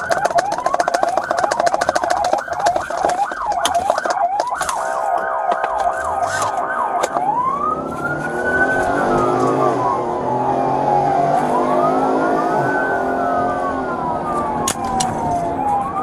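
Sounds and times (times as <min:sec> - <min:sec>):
police siren from inside car: 0:00.0 - 0:16.0.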